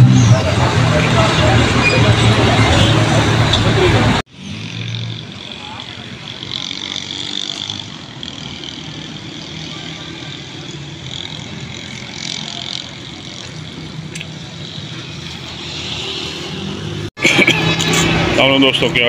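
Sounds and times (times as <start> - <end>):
road traffic rushing: 0.0 - 19.0.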